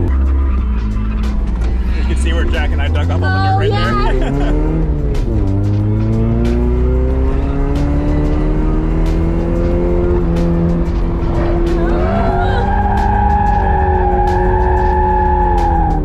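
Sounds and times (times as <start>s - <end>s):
car engine revving under load: 0.0s - 16.0s.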